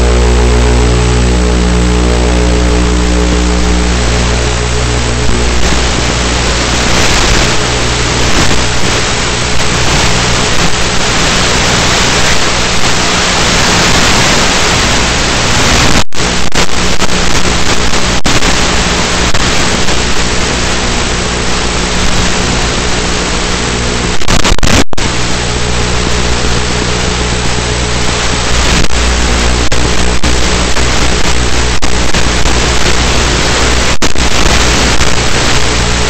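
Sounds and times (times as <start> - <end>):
electric motor hum: 0.0 - 24.2, 25.1 - 36.0
static: 0.0 - 36.0.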